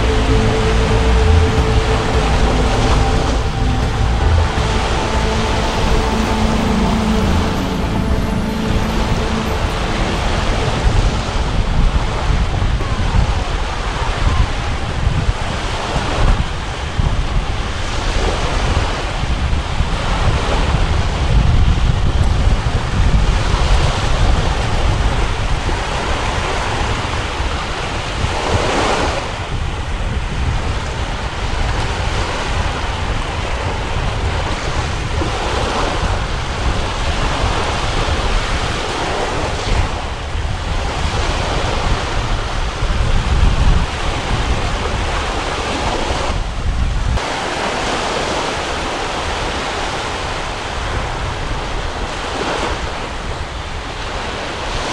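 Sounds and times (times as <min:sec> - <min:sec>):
choppy sea surf: 0:00.0 - 0:54.9
wind buffeting microphone: 0:00.0 - 0:54.9.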